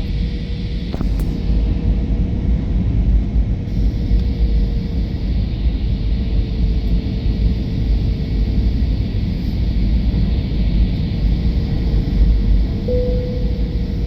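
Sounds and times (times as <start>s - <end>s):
airliner deep rumble: 0.0s - 14.0s
faint steady hum: 0.0s - 14.0s.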